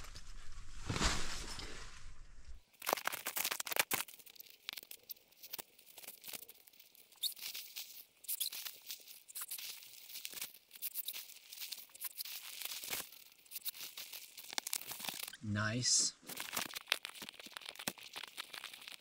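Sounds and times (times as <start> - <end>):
nylon crinkling and rustling: 0.0 - 15.4, 16.2 - 19.0.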